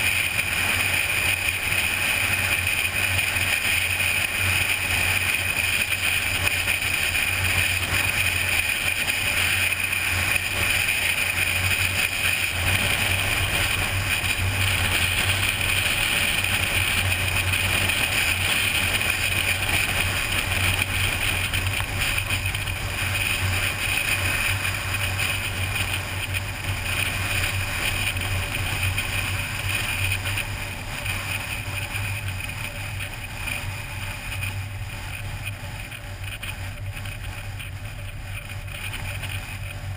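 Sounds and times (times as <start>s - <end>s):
low engine hum: 0.0s - 39.9s
wind and road noise: 0.0s - 39.9s.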